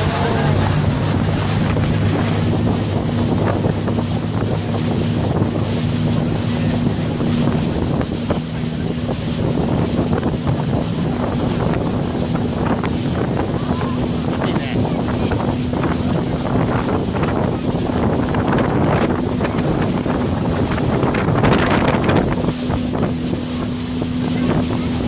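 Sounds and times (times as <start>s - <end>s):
boat engine running: 0.0s - 25.0s
water rushing past: 0.0s - 25.0s
wind buffeting microphone: 0.0s - 25.0s.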